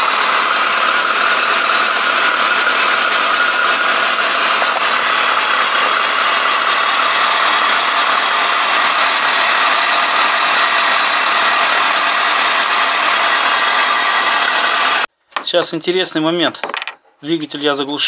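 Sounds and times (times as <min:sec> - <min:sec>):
car engine idling: 0:00.0 - 0:15.1.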